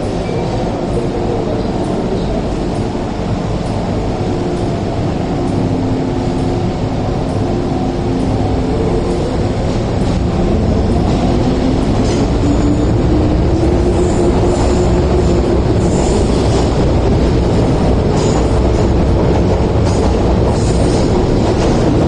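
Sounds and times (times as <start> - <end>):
electric train motors humming: 0.0 - 22.0
train wheels rumbling: 0.0 - 22.0.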